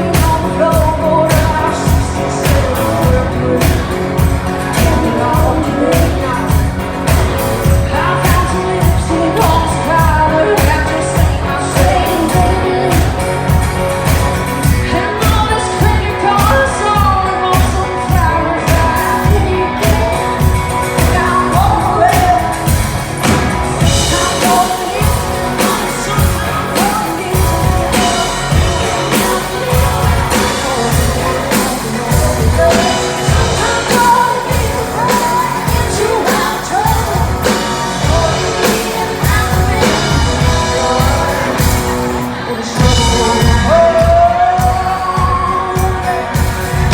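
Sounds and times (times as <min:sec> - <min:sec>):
country band playing: 0:00.0 - 0:46.9
person singing: 0:00.0 - 0:46.9
steady drum beat: 0:00.0 - 0:46.9.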